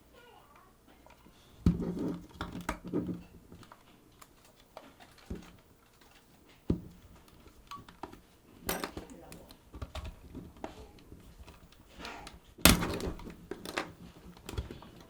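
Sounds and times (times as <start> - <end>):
small parts clicking and knocking: 0.2 - 15.0.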